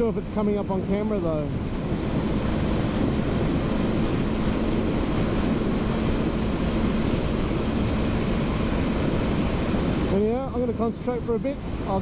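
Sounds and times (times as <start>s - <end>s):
motorcycle engine drone: 0.0s - 11.8s
wind rushing over microphone: 0.0s - 12.0s.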